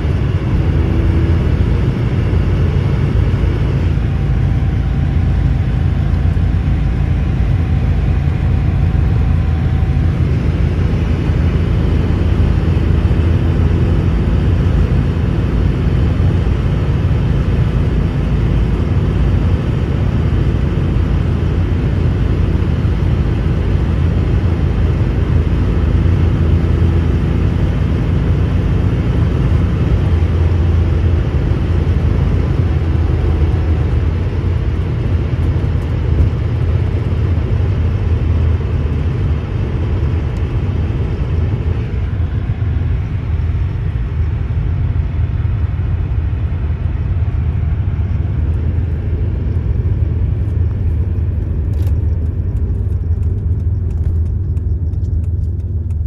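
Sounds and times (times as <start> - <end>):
car engine drone from inside cabin: 0.0 - 56.0.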